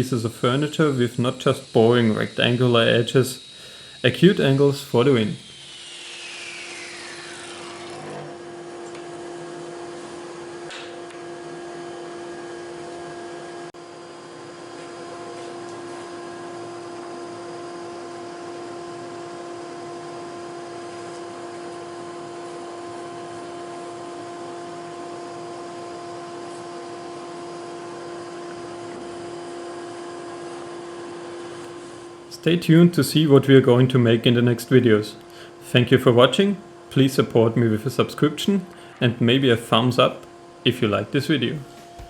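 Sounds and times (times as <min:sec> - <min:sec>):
machine motor humming: 0:00.0 - 0:42.0.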